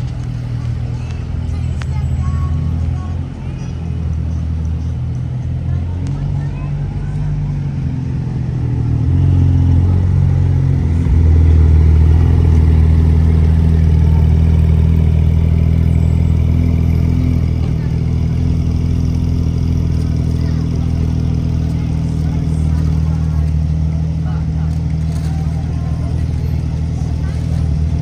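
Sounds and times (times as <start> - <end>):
car engine rumbling: 0.0 - 28.0.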